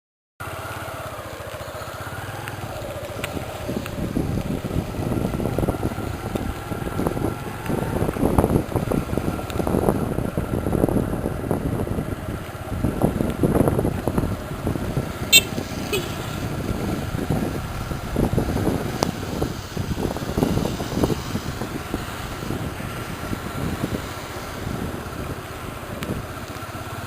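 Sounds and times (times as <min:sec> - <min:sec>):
motorcycle engine running: 0:00.4 - 0:27.0
gusty wind noise: 0:03.2 - 0:26.4.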